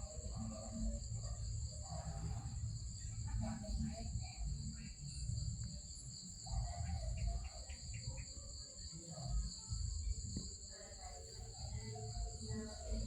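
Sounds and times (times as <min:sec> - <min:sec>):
insect chorus chirring: 0:00.0 - 0:13.0.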